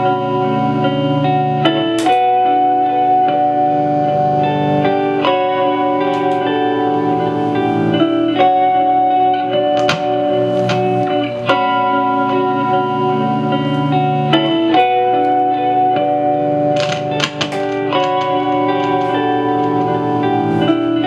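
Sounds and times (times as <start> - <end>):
ambient electric guitar loop: 0.0 - 21.0
picked guitar notes: 0.0 - 21.0.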